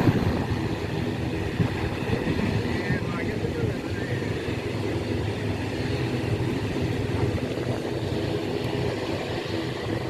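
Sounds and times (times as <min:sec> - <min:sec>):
aircraft engines droning: 0:00.0 - 0:10.0.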